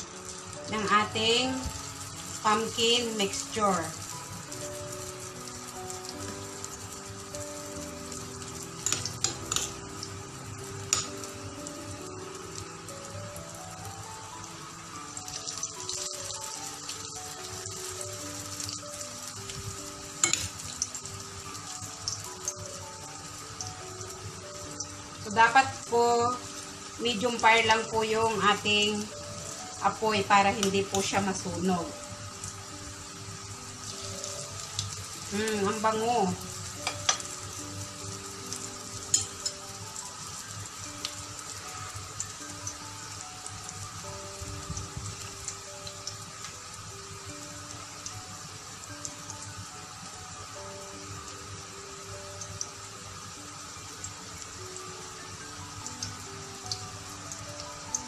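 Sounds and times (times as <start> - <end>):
oil sizzling in a frying pan: 0.0 - 58.0
soft background music: 0.0 - 58.0.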